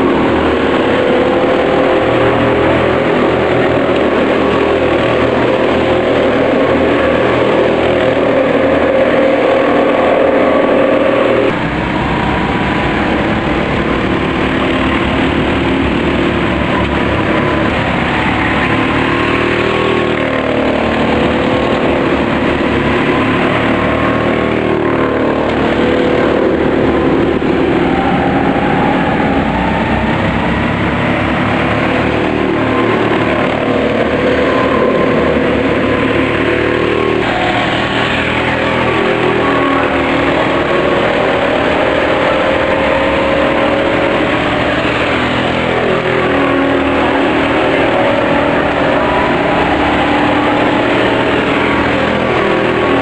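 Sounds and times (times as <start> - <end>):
racing kart engines: 0.0 - 53.0.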